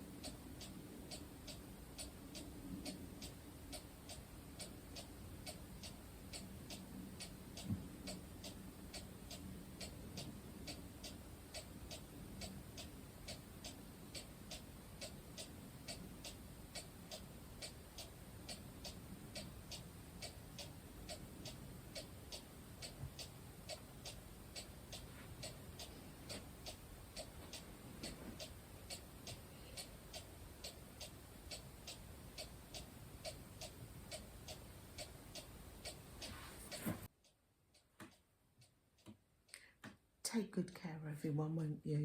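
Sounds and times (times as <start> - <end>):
clock ticking: 0.0 - 40.0.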